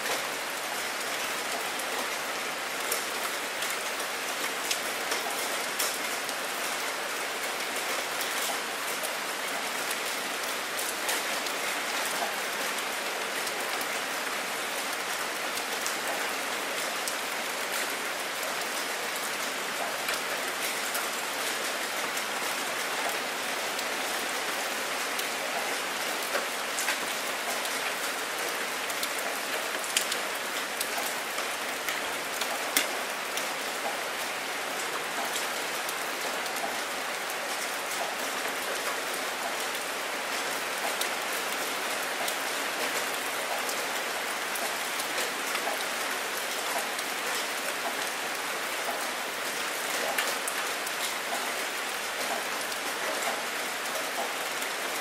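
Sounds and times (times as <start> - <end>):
rain falling on water: 0.0 - 55.0.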